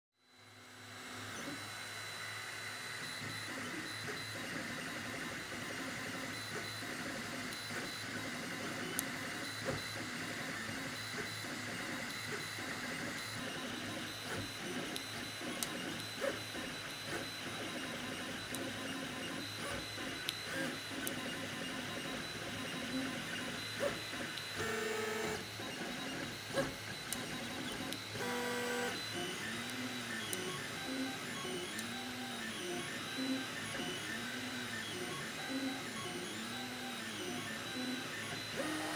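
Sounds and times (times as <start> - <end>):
stepper motors whining: 3.0 - 38.9.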